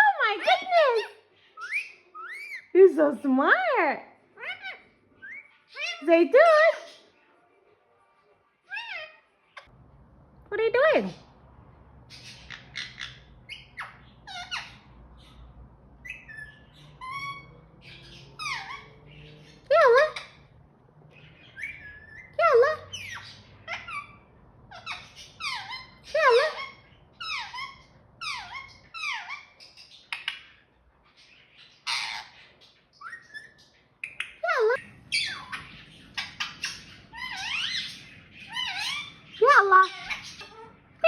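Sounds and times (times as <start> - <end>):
parrot chirping and squawking: 0.0 - 7.2, 8.6 - 9.8, 10.7 - 41.0.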